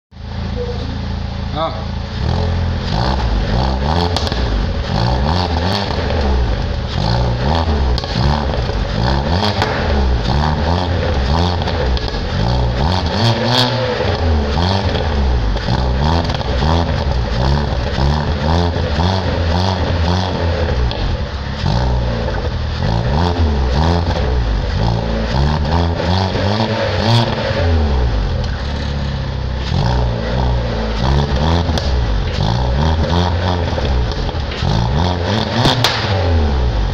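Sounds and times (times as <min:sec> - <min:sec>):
car engine revving: 0:00.2 - 0:36.9
exhaust backfire pops: 0:02.2 - 0:36.9.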